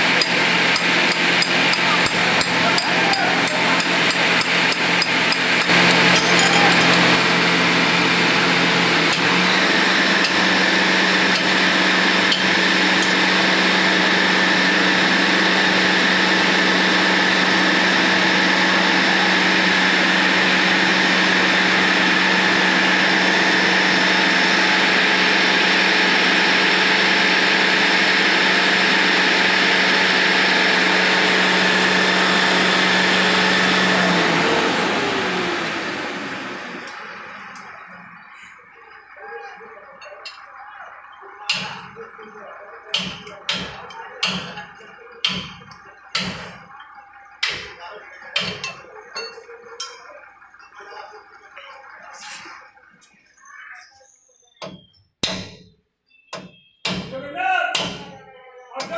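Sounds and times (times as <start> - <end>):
machine motor humming: 0.0 - 48.8.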